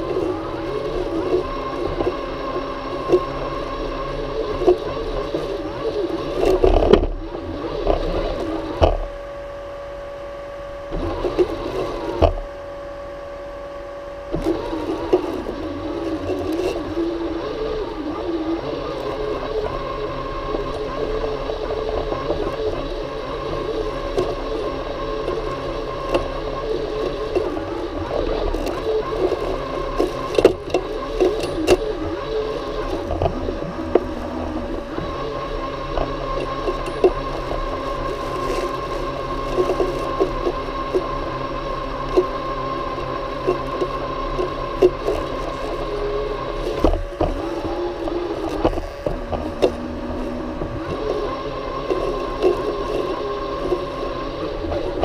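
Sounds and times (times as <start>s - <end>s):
robotic mower motor whine: 0.0s - 55.0s.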